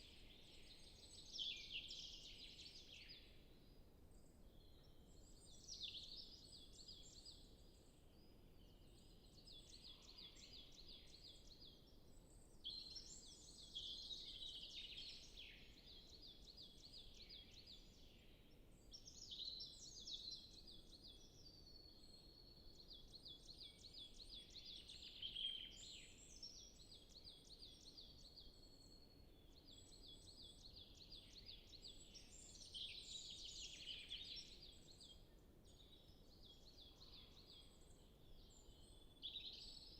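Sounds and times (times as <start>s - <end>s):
faint songbirds singing: 0.0s - 39.9s.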